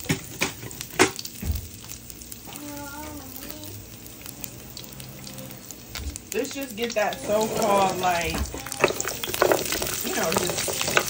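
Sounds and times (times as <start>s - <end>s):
meatballs sizzling in oil: 0.0s - 11.0s.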